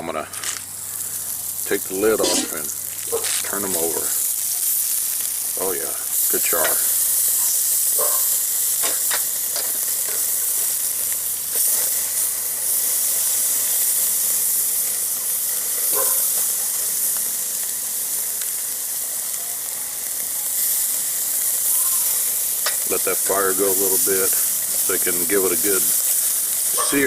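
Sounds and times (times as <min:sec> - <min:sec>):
steaks sizzling on a grill: 0:00.0 - 0:27.0.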